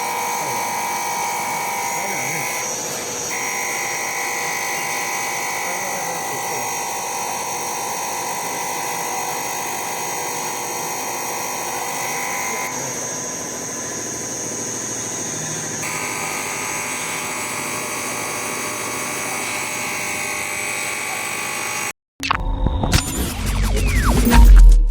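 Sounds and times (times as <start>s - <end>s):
injector test bench whining: 0.0s - 24.6s.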